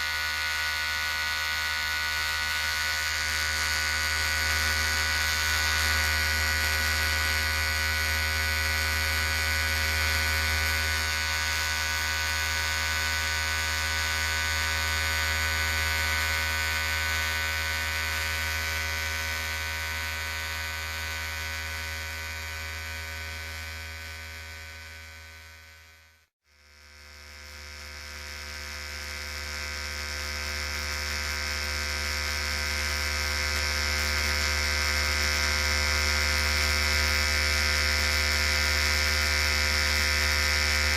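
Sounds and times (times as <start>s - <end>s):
electric hair clipper buzzing: 0.0s - 40.9s.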